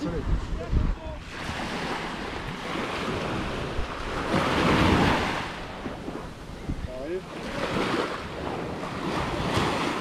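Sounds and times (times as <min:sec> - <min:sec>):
sea waves breaking: 0:00.0 - 0:10.0
wind buffeting microphone: 0:00.0 - 0:10.0.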